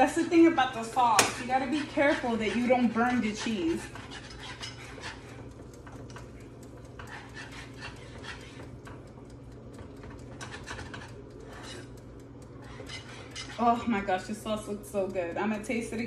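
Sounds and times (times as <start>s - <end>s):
whisk clicking and scraping in pan: 0.0s - 16.0s.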